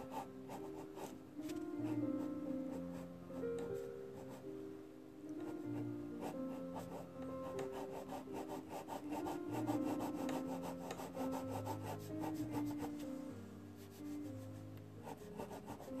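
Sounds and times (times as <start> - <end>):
pencil scratching on paper: 0.0 - 4.4, 5.5 - 16.0
background music: 0.0 - 16.0.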